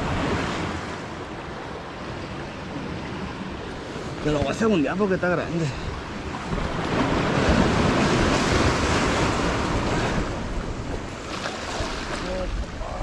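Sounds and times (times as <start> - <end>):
sea waves breaking on rocks: 0.0 - 13.0.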